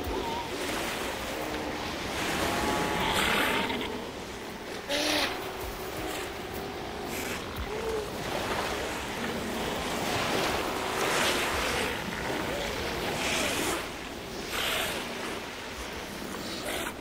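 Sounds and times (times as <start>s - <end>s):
sea lions calling: 0.0s - 17.0s
surf breaking on shore: 0.0s - 17.0s.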